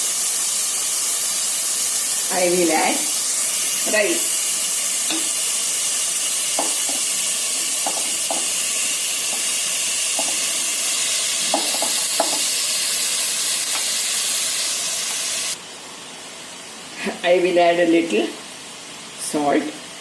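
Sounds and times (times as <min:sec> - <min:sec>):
rice sizzling in a pan: 0:00.0 - 0:20.0.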